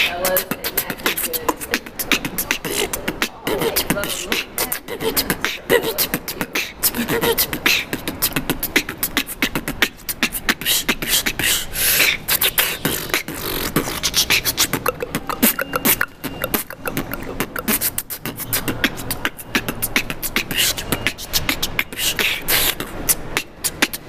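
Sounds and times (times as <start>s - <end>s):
woman beatboxing: 0.0s - 24.0s.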